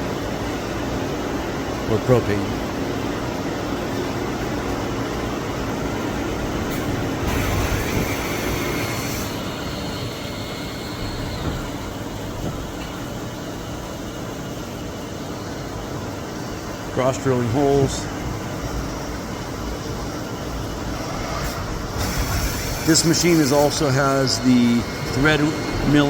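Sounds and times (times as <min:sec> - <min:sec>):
lathe machine hum: 0:00.0 - 0:26.0
tooling hiss and high whine: 0:04.0 - 0:26.0.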